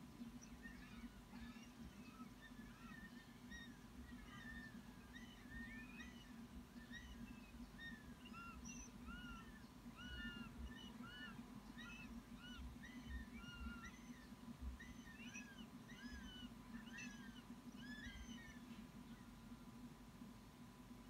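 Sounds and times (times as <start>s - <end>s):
young hawks chirping: 0.2s - 19.2s.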